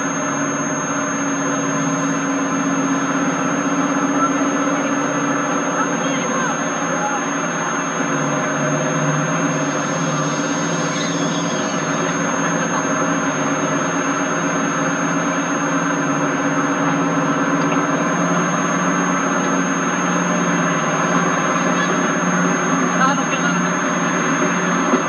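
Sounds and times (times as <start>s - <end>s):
diesel locomotive engine droning: 0.0s - 25.0s
thin high whine: 0.0s - 25.0s.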